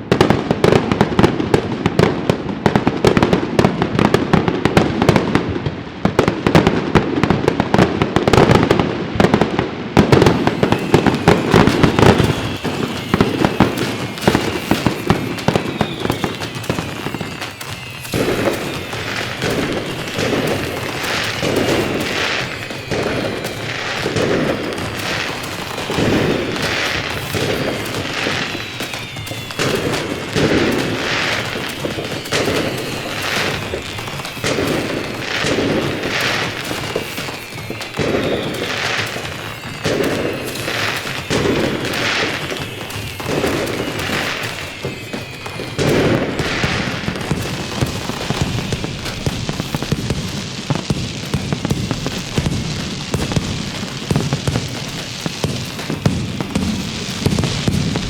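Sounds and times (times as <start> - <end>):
falling firework whistles: 0.0 - 6.6, 10.0 - 58.0
firecrackers crackling: 0.0 - 58.0
firework bangs: 0.0 - 58.0.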